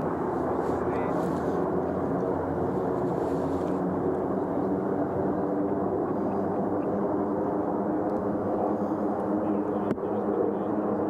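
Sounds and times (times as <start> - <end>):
propeller aircraft engine running: 0.0 - 11.0.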